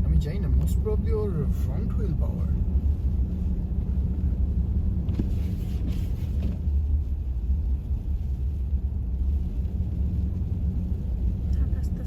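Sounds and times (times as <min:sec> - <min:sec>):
car rumbling inside cabin: 0:00.0 - 0:12.0.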